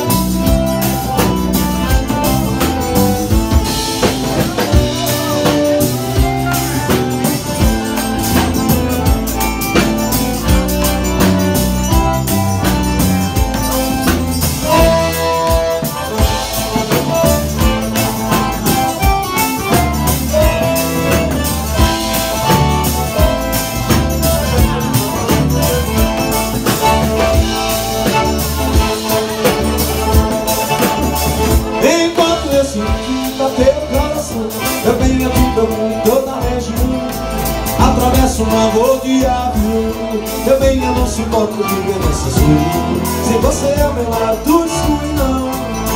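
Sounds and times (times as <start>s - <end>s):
accordion: 0.0s - 45.9s
bass drum: 0.0s - 45.9s
drum kit dance beat: 0.0s - 45.9s
guitar: 0.0s - 45.9s.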